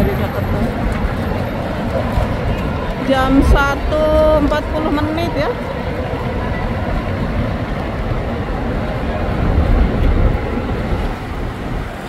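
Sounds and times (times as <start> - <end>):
street traffic rumbling: 0.0 - 12.0.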